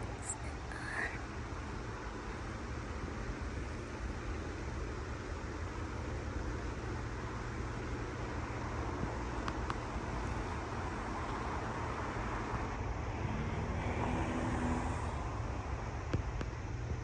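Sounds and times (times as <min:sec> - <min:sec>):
hum of passing cars: 0:00.0 - 0:17.0
vehicle engine: 0:00.0 - 0:17.0.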